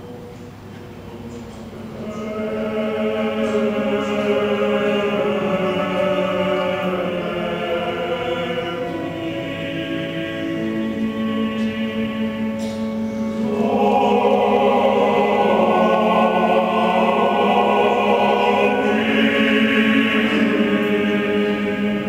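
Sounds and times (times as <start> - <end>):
male choir singing: 1.8 - 22.0.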